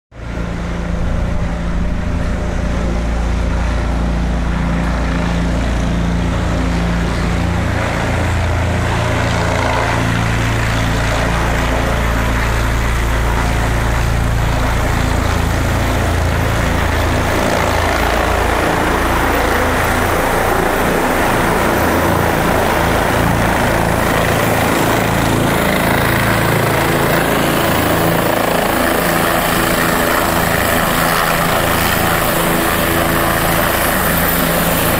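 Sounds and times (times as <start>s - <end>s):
helicopter rotor and engine: 0.1s - 34.9s.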